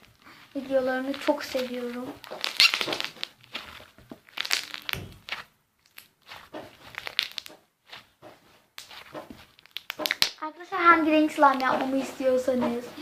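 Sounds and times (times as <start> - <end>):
slime squelching in hands: 0.0 - 12.4.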